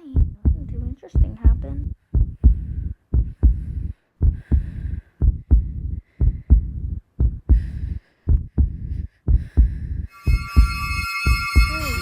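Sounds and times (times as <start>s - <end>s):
heartbeat thumps: 0.0s - 12.0s.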